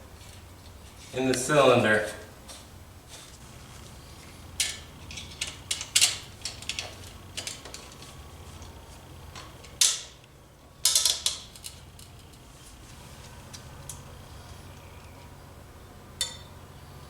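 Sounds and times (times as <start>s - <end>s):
faint steady low hum: 0.0s - 17.0s.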